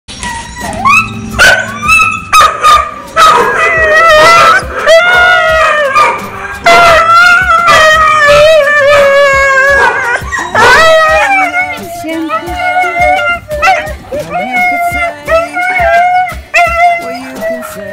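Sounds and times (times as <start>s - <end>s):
dog yipping: 0.1s - 17.8s
dog howling and whining: 0.1s - 17.9s.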